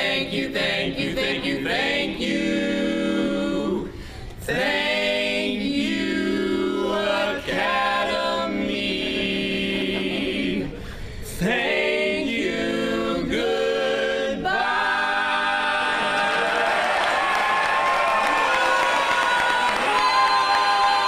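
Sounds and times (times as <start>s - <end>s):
group singing a capella harmony: 0.0s - 17.0s.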